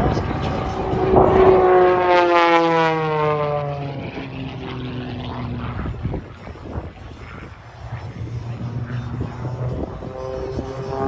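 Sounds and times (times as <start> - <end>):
propeller plane passing: 0.0 - 11.0.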